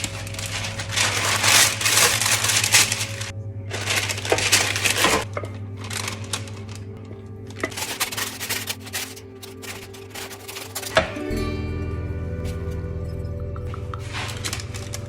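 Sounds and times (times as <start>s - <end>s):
crunching rustling food preparation: 0.0s - 11.6s, 13.5s - 15.0s
background music: 0.0s - 15.0s.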